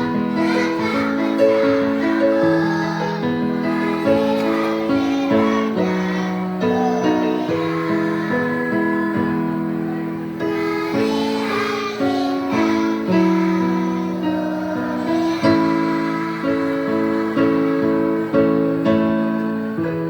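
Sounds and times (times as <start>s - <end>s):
children's choir singing: 0.0s - 20.0s
instrumental accompaniment: 0.0s - 20.0s.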